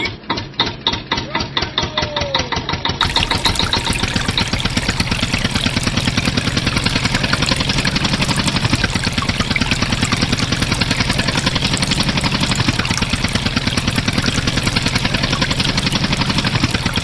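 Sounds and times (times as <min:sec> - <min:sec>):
engine idling with chugging beat: 0:00.0 - 0:17.0.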